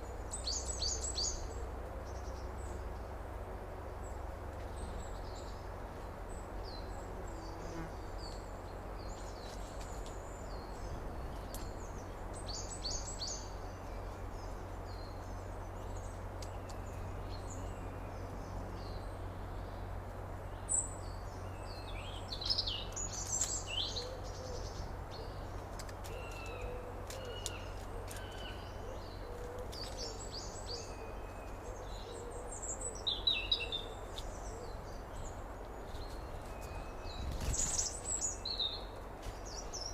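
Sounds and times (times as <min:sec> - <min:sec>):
birds chirping and twittering: 0:00.0 - 0:03.2, 0:04.0 - 0:39.9
low rumble and hiss: 0:00.0 - 0:39.9.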